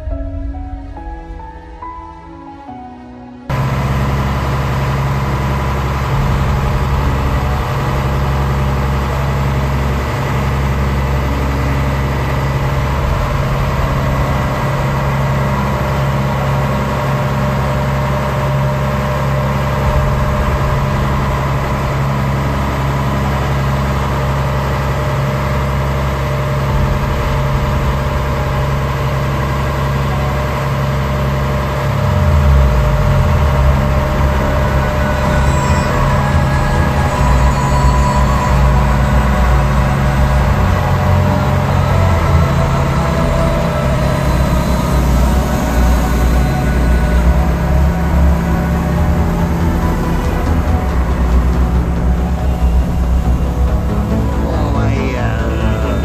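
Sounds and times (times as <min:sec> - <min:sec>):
boat engine deep drone: 0:00.0 - 0:56.0.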